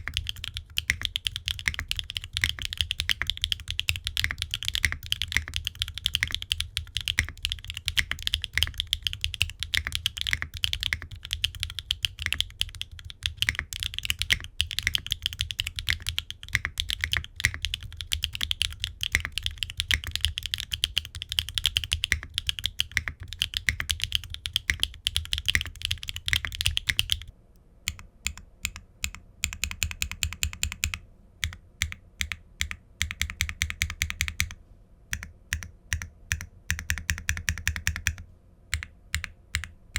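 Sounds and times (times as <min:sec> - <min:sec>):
mechanical keyboard typing: 0:00.0 - 0:27.3, 0:27.9 - 0:39.8.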